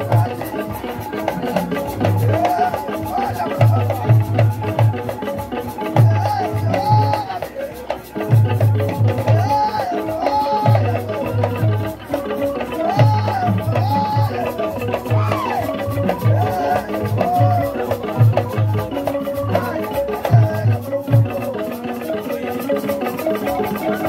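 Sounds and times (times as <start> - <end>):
person singing: 0.0 - 24.0.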